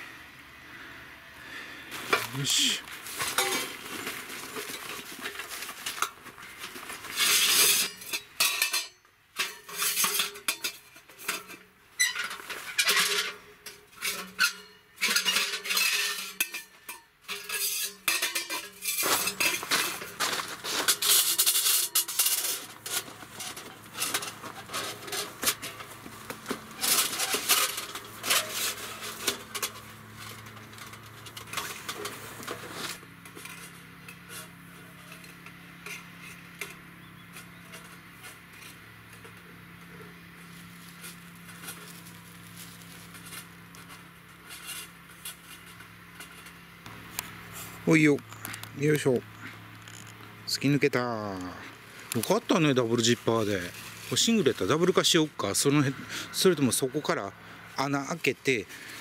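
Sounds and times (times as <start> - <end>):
metal parts clinking and clanking: 3.1 - 39.9, 47.9 - 59.0.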